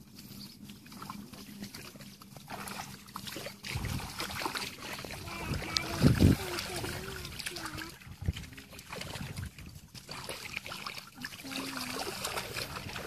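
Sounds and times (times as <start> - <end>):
splashing in shallow muddy water: 0.0 - 13.0.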